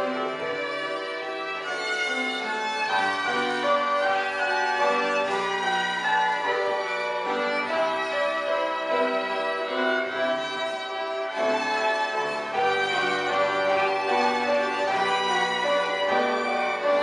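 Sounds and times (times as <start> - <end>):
violin trio playing: 0.0 - 17.0.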